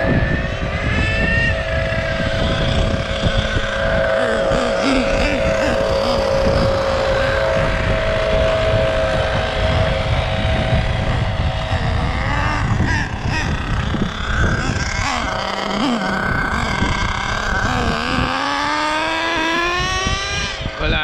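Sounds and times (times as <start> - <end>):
rc truck engine whining: 0.0 - 21.0.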